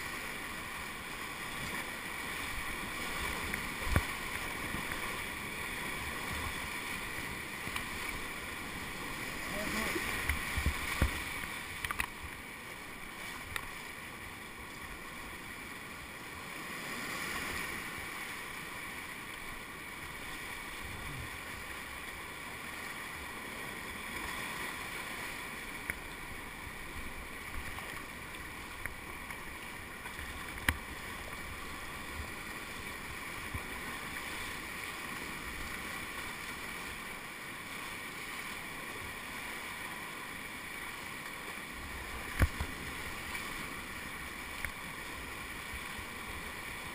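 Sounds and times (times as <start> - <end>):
whitewater rapids rushing: 0.0 - 46.9.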